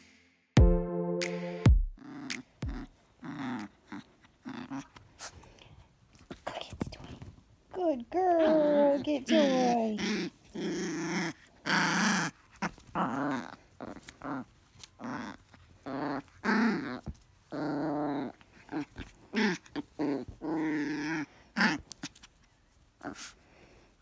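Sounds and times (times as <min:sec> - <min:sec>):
small dog play-growling: 0:02.0 - 0:07.4, 0:08.2 - 0:23.8.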